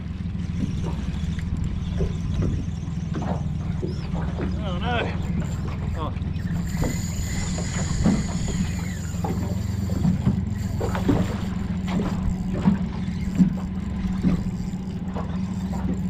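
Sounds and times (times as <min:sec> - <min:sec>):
boat motor idling: 0:00.0 - 0:16.0
water knocking against hull: 0:00.0 - 0:16.0.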